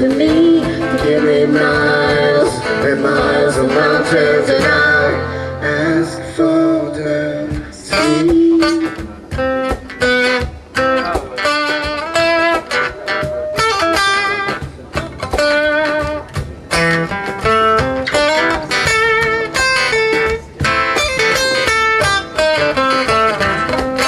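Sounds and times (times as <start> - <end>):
guitar plucked notes: 0.0 - 24.0.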